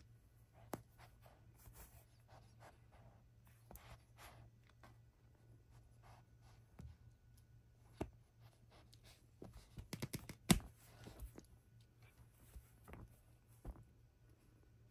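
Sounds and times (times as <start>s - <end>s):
faint scratching and tapping: 0.3s - 14.6s.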